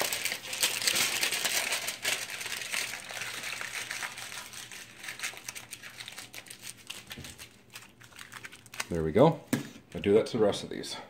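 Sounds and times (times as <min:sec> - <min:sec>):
aluminium foil crinkling: 0:00.0 - 0:09.2.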